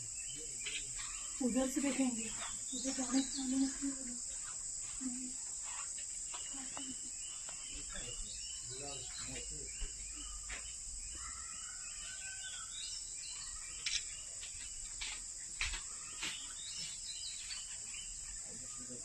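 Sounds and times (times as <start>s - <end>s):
bird chirps: 0.0s - 19.0s
high-pitched insect drone: 0.0s - 19.0s.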